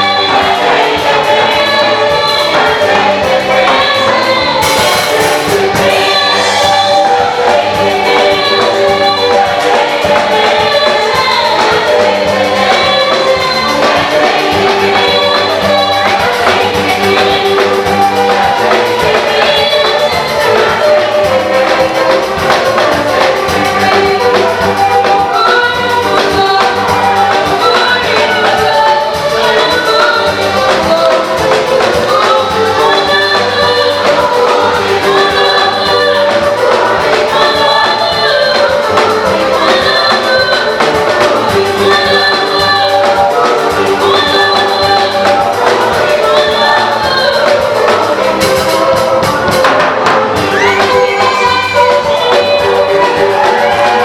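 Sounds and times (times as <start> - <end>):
choir singing gospel song: 0.0 - 54.0
percussion beat: 0.0 - 54.0.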